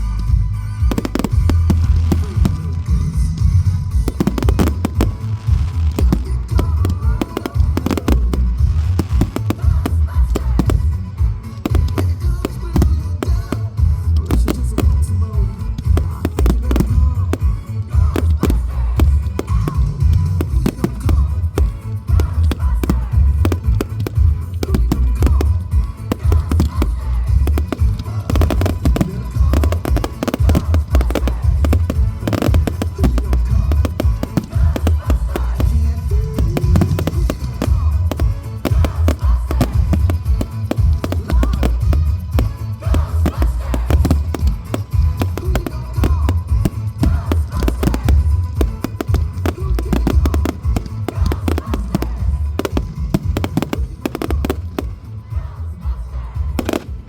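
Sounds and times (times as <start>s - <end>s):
fireworks banging and crackling: 0.0s - 57.0s
loud music with heavy bass: 0.0s - 57.0s.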